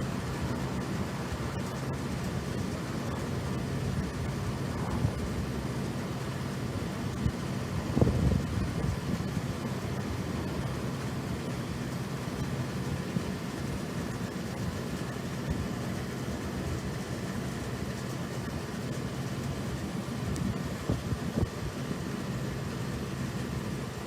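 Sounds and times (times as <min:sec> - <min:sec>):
distant engine rumble: 0:00.0 - 0:23.5.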